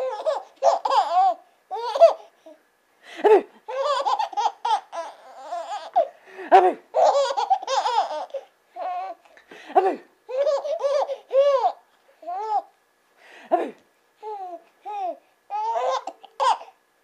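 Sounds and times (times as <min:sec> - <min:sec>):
baby giggling and laughing: 0:00.0 - 0:02.4, 0:03.2 - 0:09.2, 0:09.8 - 0:12.7, 0:13.6 - 0:16.8.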